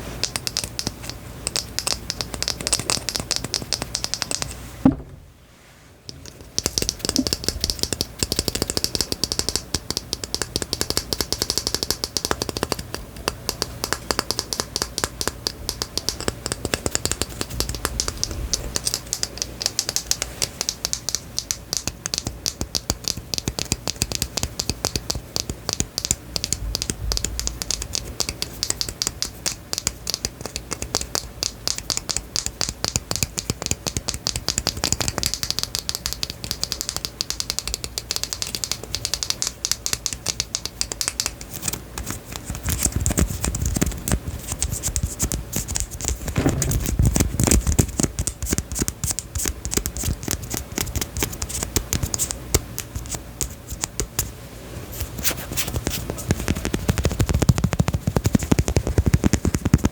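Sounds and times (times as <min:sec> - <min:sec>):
rapid small clicks and taps: 0:00.1 - 0:04.6, 0:06.1 - 0:54.3, 0:55.0 - 0:59.9.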